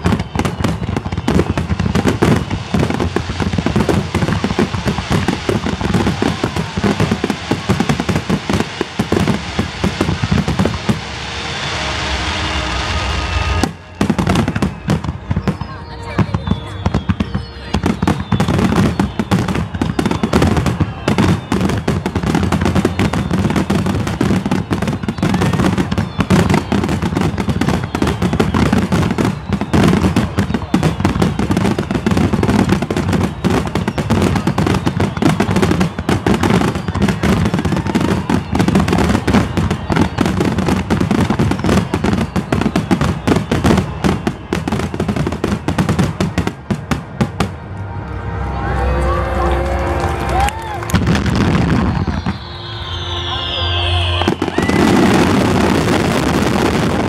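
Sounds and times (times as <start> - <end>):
fireworks bursting crackle: 0.0 - 48.0, 49.5 - 57.0.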